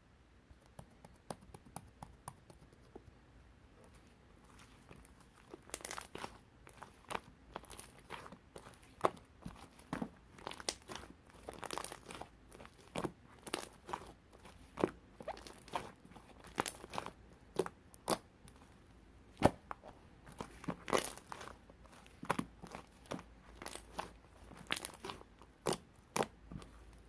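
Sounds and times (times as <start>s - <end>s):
hands crinkling and tearing: 4.4s - 18.8s, 19.4s - 27.0s.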